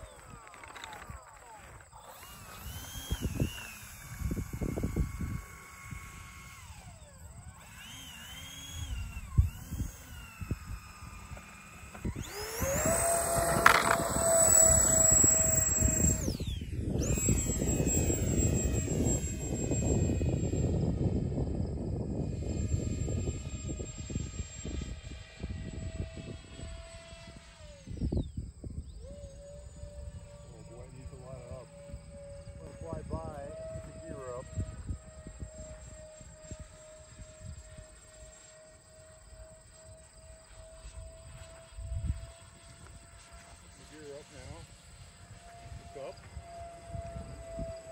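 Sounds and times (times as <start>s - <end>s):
wind buffeting microphone: 0.0s - 38.4s, 40.5s - 47.9s
electric ducted fans whining: 0.0s - 47.9s.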